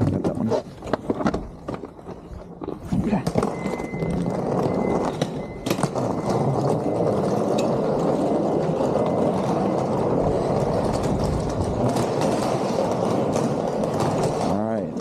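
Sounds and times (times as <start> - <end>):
suitcase wheels rolling on pavement: 0.0 - 15.0.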